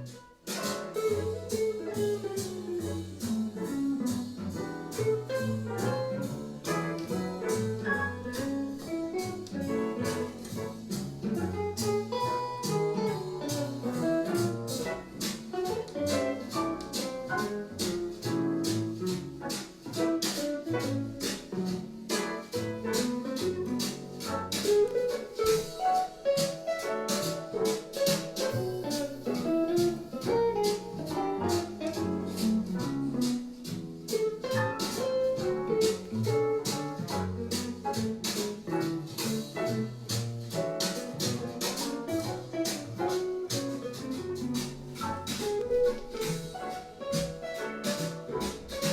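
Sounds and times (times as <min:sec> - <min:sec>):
bass notes: 0:00.0 - 0:48.9
light percussion beat: 0:00.0 - 0:48.9.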